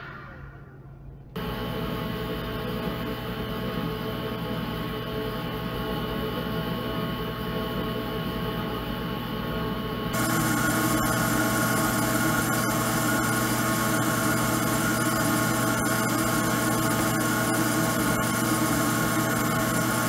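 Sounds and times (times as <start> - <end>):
laser engraver fan and motors humming: 1.4 - 20.0.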